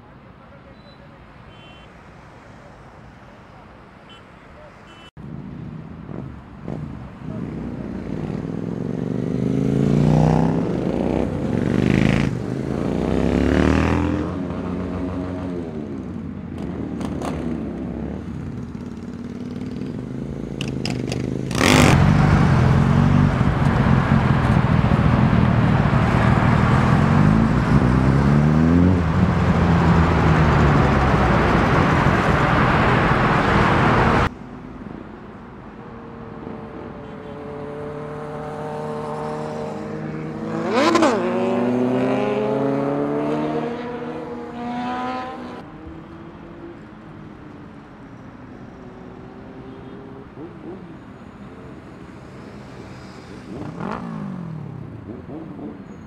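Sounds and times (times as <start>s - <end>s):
motorcycle engines revving: 4.1s - 47.8s, 48.4s - 56.0s.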